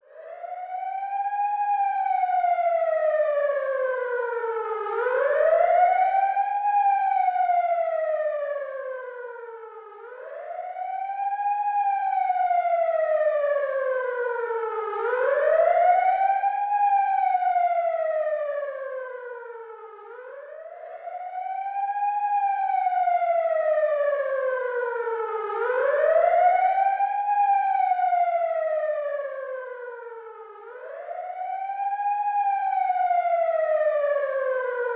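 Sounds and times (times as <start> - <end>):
ambulance siren wailing: 0.1 - 34.9.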